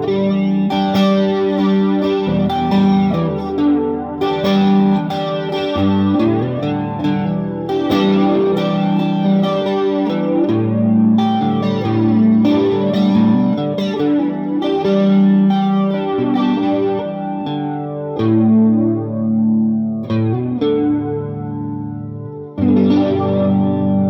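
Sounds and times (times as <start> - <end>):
electric guitar chords: 0.0 - 24.0.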